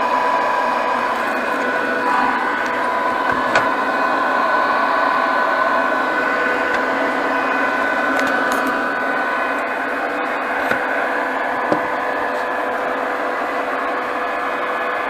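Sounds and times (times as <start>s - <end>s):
welding machine fan whirring: 0.0s - 15.0s.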